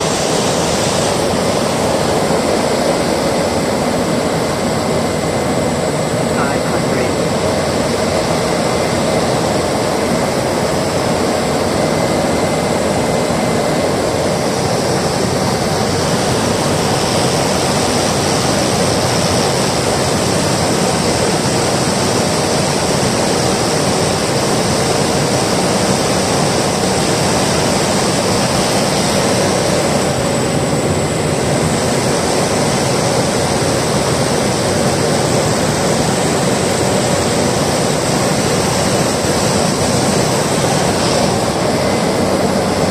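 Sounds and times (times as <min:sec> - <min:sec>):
propeller plane engine drone: 0:00.0 - 0:42.9.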